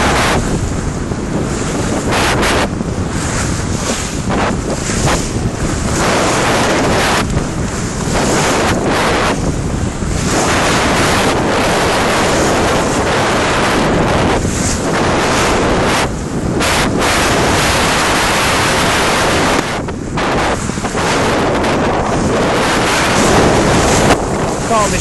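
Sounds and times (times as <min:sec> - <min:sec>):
water splashing along hull: 0:00.0 - 0:25.0
wind buffeting microphone: 0:00.0 - 0:25.0.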